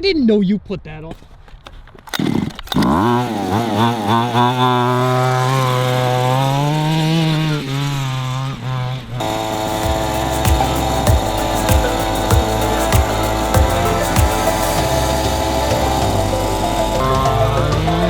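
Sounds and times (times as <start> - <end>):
small two-stroke engine running: 2.2 - 18.0.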